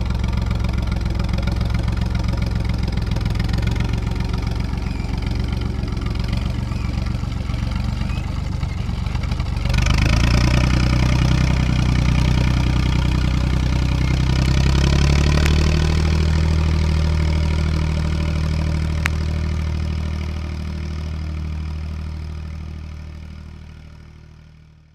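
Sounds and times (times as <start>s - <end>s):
tractor diesel engine revving: 0.0s - 24.4s.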